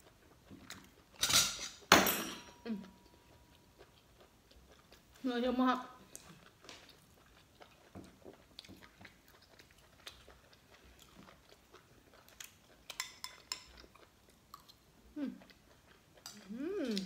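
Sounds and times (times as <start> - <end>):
person chewing: 0.0 - 1.2, 2.6 - 5.2, 6.0 - 17.0.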